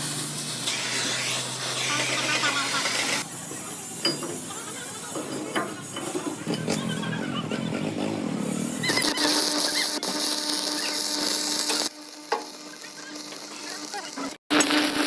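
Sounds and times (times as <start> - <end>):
welding arc crackling: 0.0 - 6.6, 7.9 - 15.0.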